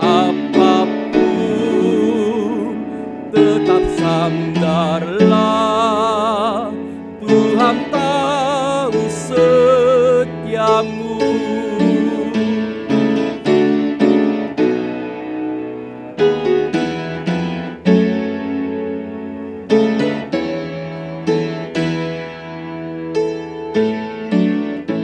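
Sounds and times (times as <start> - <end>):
piano playing hymn chords: 0.0 - 25.0.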